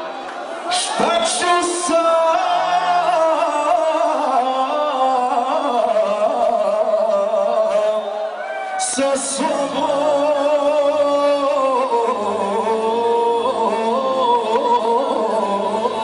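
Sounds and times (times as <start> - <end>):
person singing: 0.7 - 16.0.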